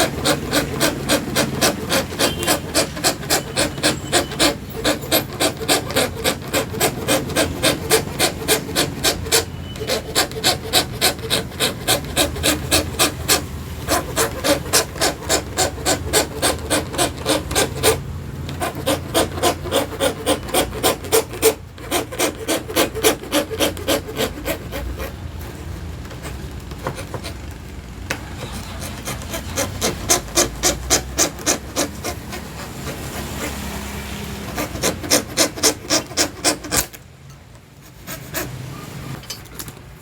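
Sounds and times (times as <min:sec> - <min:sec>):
hand saw cutting acrylic: 0:00.0 - 0:27.6, 0:28.3 - 0:37.1, 0:37.8 - 0:39.2.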